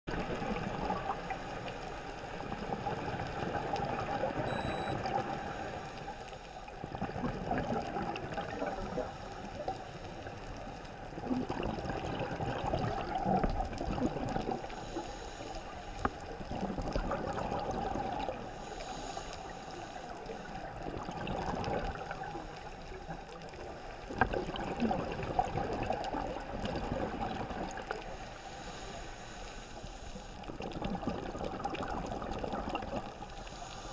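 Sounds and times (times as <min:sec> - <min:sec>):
underwater exhaled bubbles gurgling: 0:00.1 - 0:33.9.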